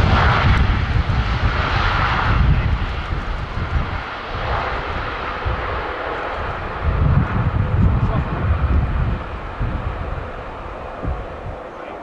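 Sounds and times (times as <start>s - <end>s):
jet engines roaring over rumble: 0.0s - 12.0s.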